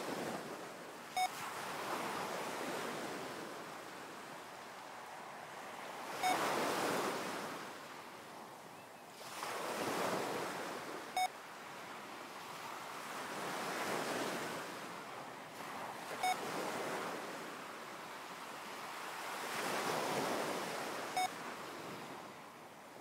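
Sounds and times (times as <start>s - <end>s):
ocean waves washing: 0.0s - 8.4s, 9.2s - 23.0s.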